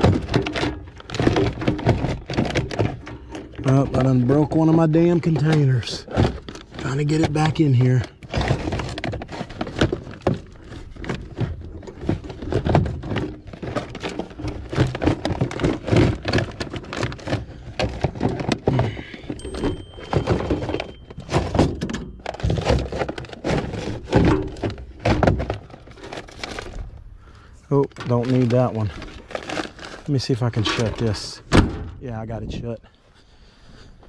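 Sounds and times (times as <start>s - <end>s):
plastic bins knocking and clattering: 0.0s - 32.8s.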